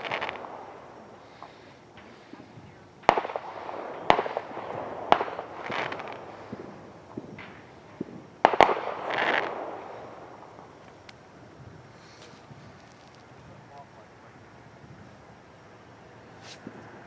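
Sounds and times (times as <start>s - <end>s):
fireworks bangs: 0.0s - 14.3s
fireworks crackling fizz: 0.0s - 17.0s.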